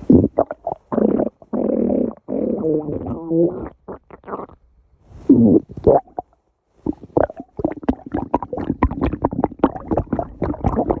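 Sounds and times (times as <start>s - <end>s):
stomach growling: 0.0s - 4.6s, 5.2s - 11.0s.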